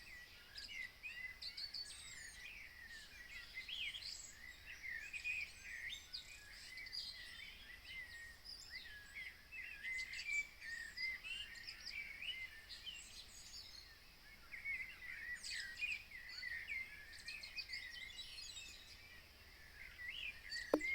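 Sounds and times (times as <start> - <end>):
songbirds chirping and warbling: 0.1 - 20.9.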